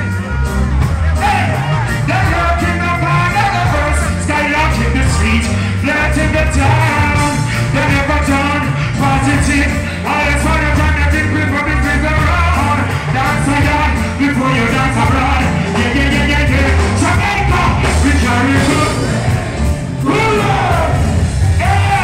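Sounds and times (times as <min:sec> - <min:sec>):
heavy bass line: 0:00.0 - 0:22.0
person singing: 0:00.0 - 0:22.0
reggae band playing: 0:00.0 - 0:22.0.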